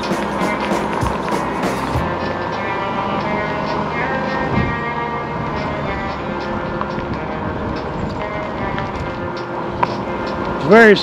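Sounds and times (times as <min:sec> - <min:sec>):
light high percussion ticks: 0:00.0 - 0:10.8
sustained chords: 0:00.0 - 0:11.0.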